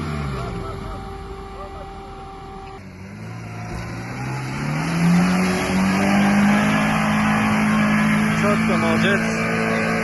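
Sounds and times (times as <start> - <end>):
engine revving under load: 0.0 - 10.0.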